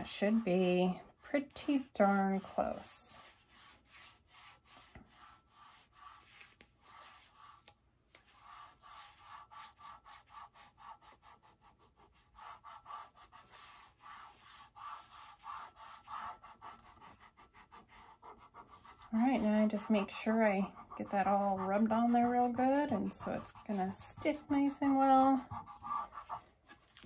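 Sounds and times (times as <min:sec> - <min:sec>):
fingers rubbing over tape: 0:00.0 - 0:27.0.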